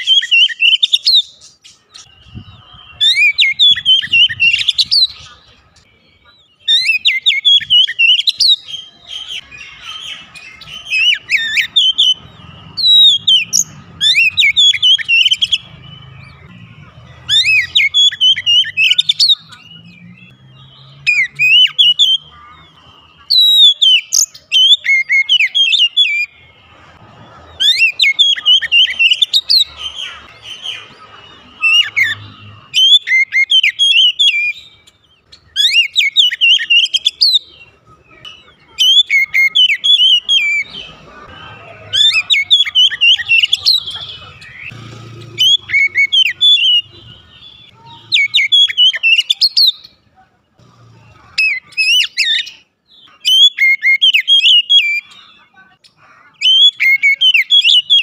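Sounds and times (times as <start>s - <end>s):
bird singing whistled notes: 0.0s - 22.3s, 23.2s - 26.5s, 27.5s - 40.9s, 45.4s - 50.0s, 51.4s - 55.5s, 56.4s - 58.0s.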